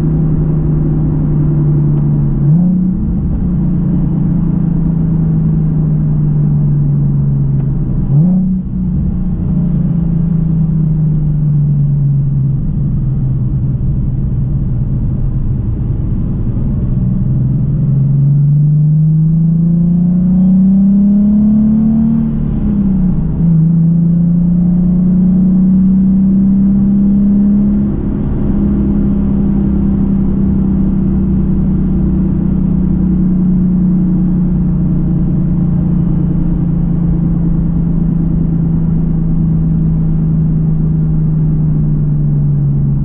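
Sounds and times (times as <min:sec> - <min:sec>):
car engine from inside cabin: 0:00.0 - 0:43.0.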